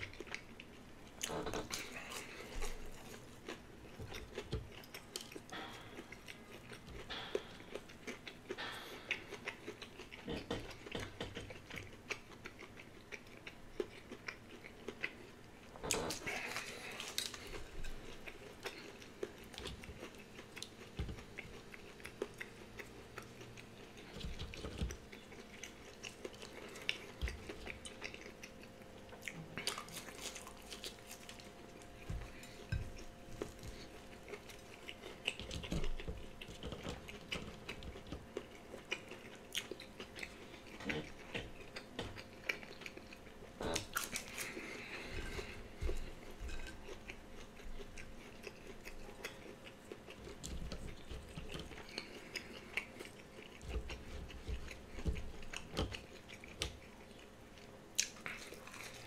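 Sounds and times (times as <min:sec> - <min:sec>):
chewing crunchy food: 0:00.0 - 0:59.0.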